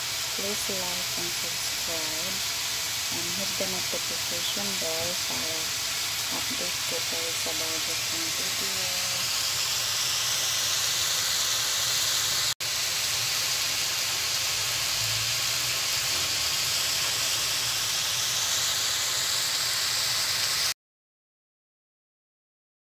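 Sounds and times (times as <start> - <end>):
green beans sizzling in a wok: 0.0 - 20.8.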